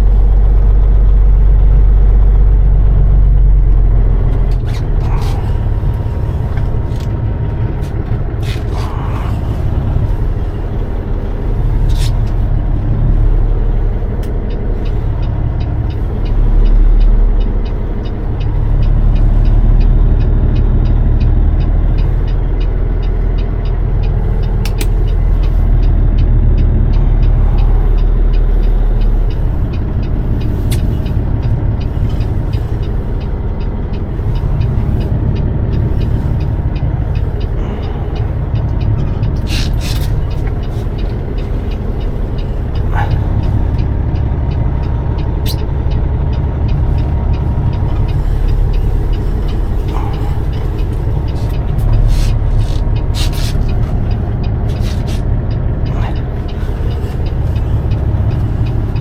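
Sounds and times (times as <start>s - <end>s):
diesel truck engine rumble: 0.0s - 59.0s
steady light ticking: 0.0s - 59.0s.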